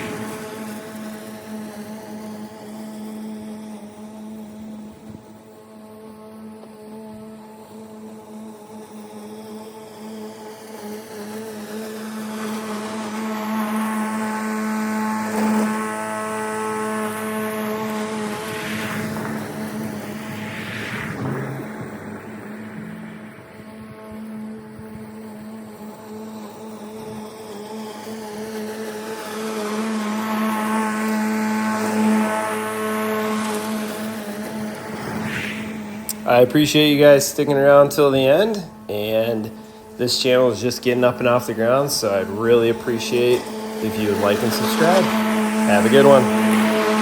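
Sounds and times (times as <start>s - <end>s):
lawn mower running: 0.0s - 5.0s, 6.2s - 20.2s, 22.5s - 35.1s, 36.2s - 47.0s
power tool motor humming: 0.0s - 20.2s, 22.5s - 35.2s, 39.5s - 47.0s.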